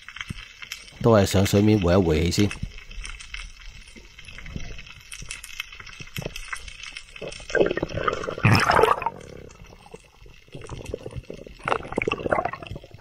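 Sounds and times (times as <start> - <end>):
underwater water noise: 0.0 - 13.0.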